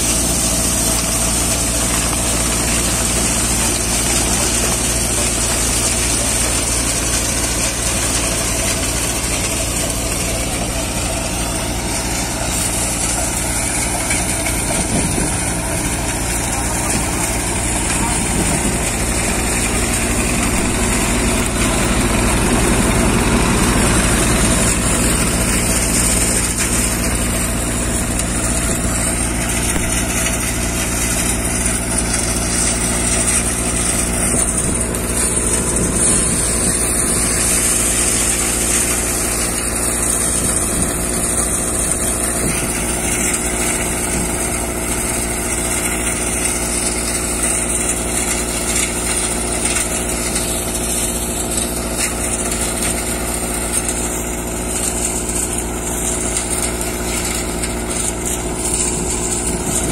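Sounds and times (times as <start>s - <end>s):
thresher running: 0.0s - 59.9s
tractor diesel engine running: 0.0s - 59.9s.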